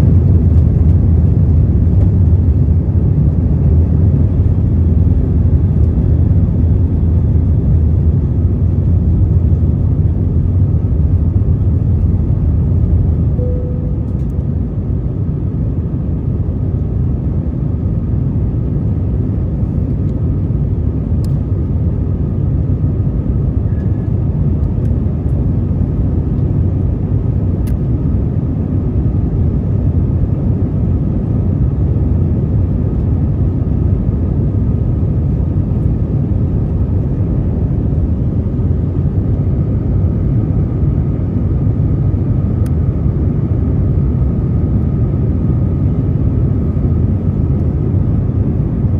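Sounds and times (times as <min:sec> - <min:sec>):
airplane cabin rumble: 0:00.0 - 0:48.9.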